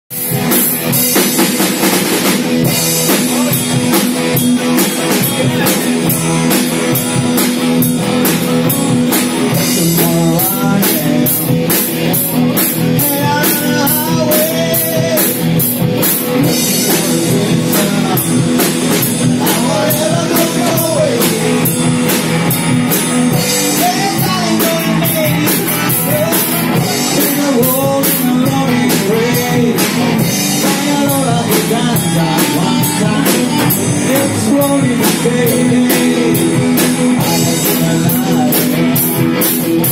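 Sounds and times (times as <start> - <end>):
live rock band playing: 0.1 - 39.9
person singing: 2.5 - 22.2, 23.2 - 39.9.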